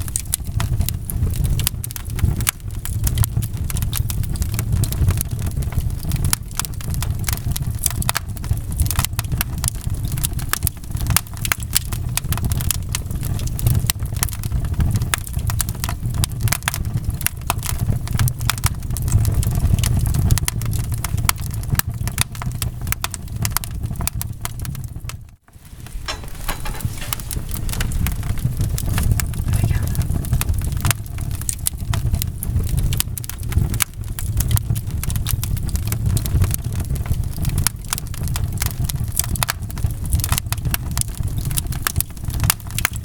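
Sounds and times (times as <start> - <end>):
fire pops and snaps: 0.0 - 43.0
low rumble of flames: 0.0 - 43.0.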